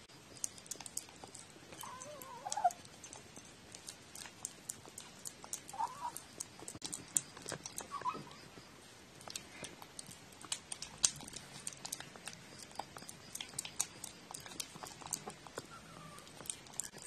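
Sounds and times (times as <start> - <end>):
cat chewing and licking food: 0.0 - 17.0
faint cat murmuring: 0.4 - 17.0.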